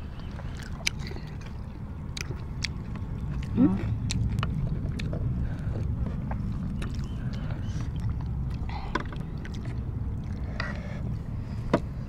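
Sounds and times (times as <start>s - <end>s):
chewing and lip smacking: 0.0s - 10.9s
steady low rumble: 0.0s - 12.0s.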